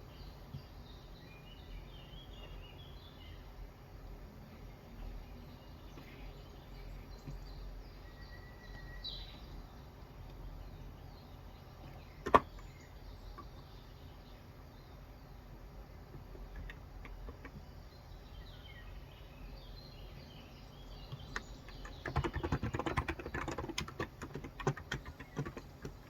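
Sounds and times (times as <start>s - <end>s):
faint birds chirping: 0.0s - 26.0s
low steady background hum: 0.0s - 26.0s.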